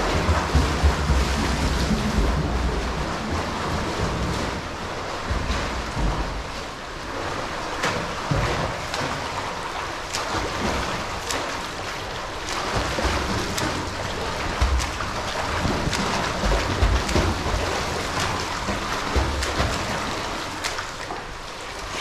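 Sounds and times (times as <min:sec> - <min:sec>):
arm splashing into water: 0:00.0 - 0:22.0
swimmer splashing: 0:00.0 - 0:22.0.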